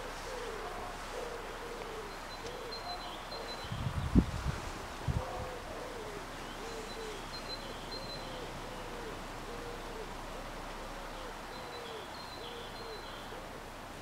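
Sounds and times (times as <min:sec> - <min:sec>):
bird cooing: 0:00.0 - 0:04.0, 0:05.1 - 0:13.7.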